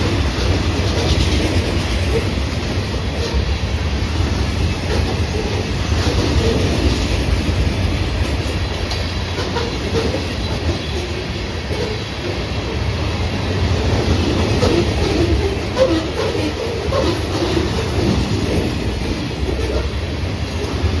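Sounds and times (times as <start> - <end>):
train wheels rumbling on rails: 0.0 - 21.0
wheels clacking on rails: 0.0 - 21.0.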